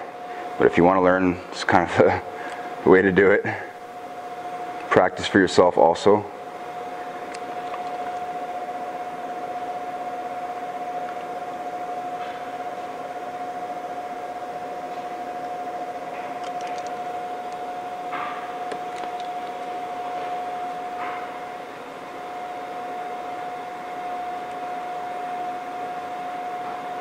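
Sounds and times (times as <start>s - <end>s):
mechanical hum with tone: 0.0s - 27.0s.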